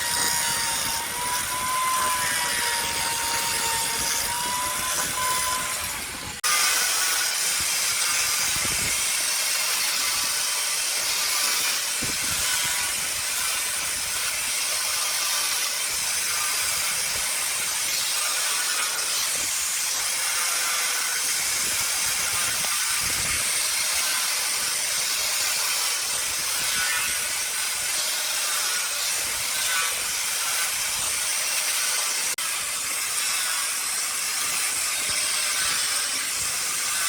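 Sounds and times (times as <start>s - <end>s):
wood lathe hissing shear: 0.0s - 37.0s.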